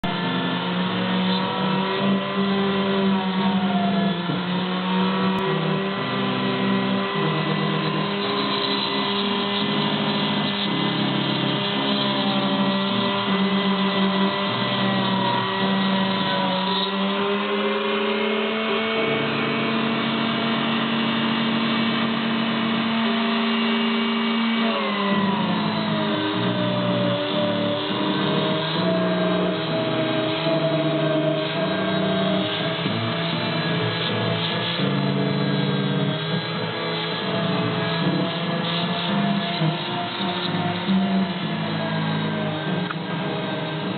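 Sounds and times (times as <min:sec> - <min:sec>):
stepper motors whining: 0:00.0 - 0:43.9.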